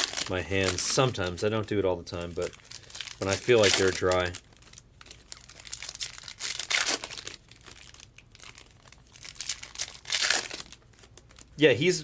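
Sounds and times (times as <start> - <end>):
foil wrappers crinkling and tearing: 0.0 - 11.6.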